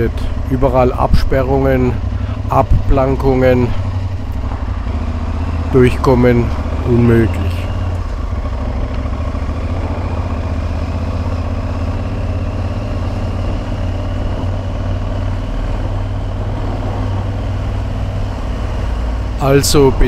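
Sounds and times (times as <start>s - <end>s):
motorcycle engine running at low revs: 0.0s - 20.0s.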